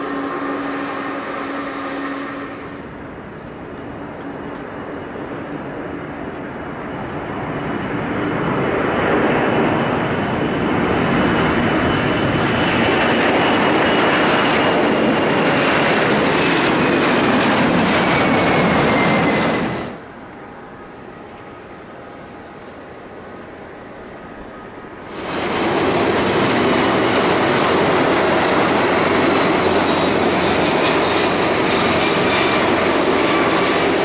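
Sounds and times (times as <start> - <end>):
high jet whine: 0.0 - 34.0
jet engine roar: 0.0 - 34.0.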